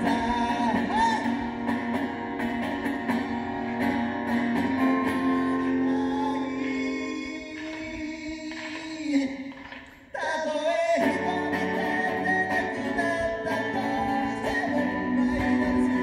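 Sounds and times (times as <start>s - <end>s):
man singing: 0.0s - 2.0s, 5.0s - 16.0s
acoustic guitar strumming: 0.0s - 9.8s, 11.0s - 16.0s.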